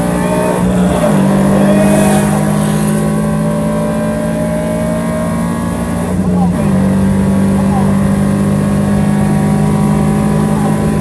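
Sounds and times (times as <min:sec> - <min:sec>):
car engine accelerating at high revs: 0:00.0 - 0:11.0.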